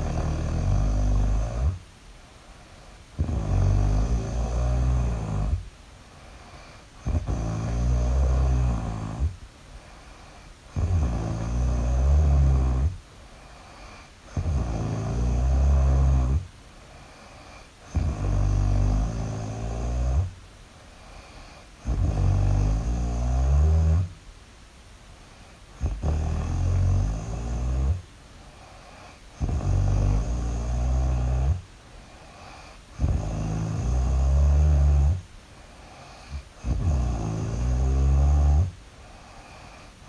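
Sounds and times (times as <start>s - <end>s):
person snoring loudly: 0.0s - 1.8s, 3.2s - 5.7s, 6.4s - 20.3s, 21.1s - 24.1s, 25.7s - 28.0s, 28.6s - 35.2s, 35.8s - 40.0s.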